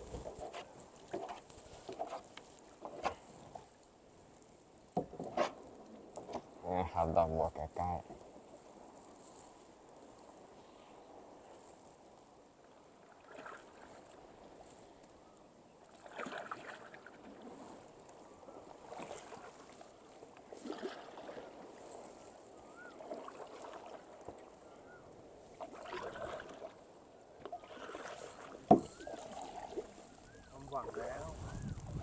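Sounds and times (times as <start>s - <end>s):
kayak paddles splashing in water: 0.0s - 6.6s, 12.6s - 32.0s.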